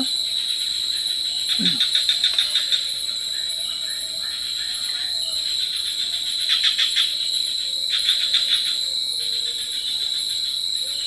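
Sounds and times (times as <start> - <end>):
insects droning: 0.0 - 11.0
rapid pulsing insect trill: 0.0 - 11.0.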